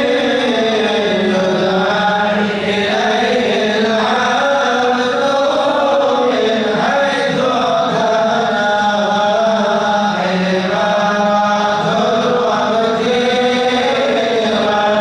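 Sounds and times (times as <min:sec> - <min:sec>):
men chanting through microphones: 0:00.0 - 0:15.0.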